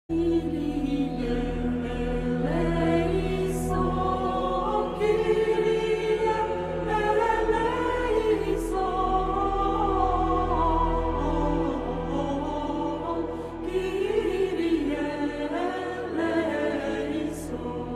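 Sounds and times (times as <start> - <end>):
choir singing held notes: 0.1 - 17.9
steady low drone: 0.1 - 17.9.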